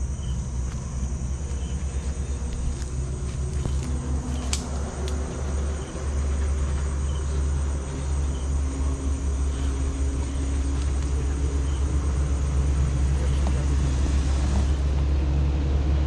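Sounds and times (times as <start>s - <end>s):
insects chirring: 0.0s - 14.9s
low rumble: 0.0s - 16.0s.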